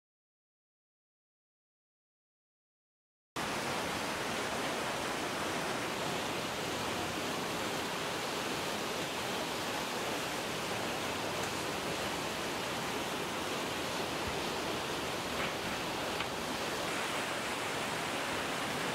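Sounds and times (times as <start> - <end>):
flooding river rushing: 3.4 - 18.9.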